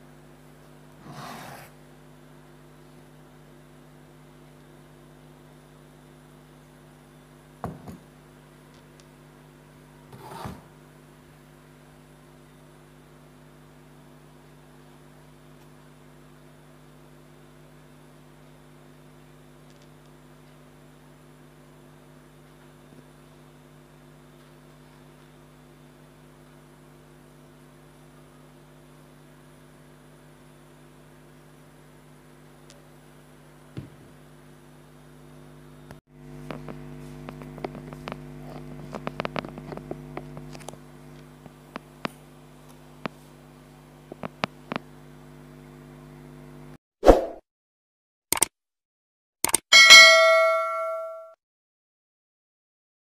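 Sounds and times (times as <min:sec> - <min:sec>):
electrical hum: 0:00.0 - 0:46.8.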